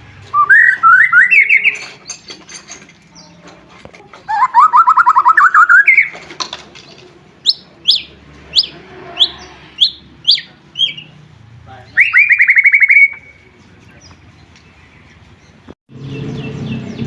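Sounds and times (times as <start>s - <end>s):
bird singing trills and whistles: 0.4s - 3.4s, 4.2s - 6.2s, 7.4s - 11.2s, 11.9s - 17.0s.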